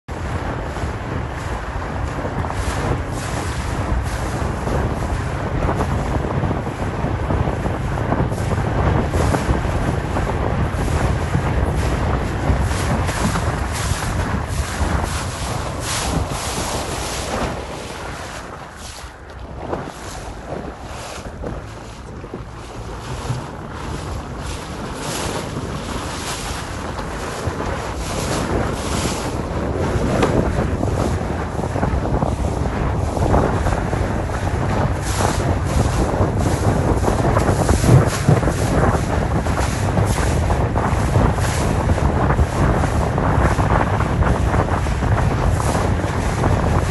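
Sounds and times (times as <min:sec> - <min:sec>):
choppy water rushing: 0:00.0 - 0:46.9
wind buffeting microphone: 0:00.0 - 0:46.9.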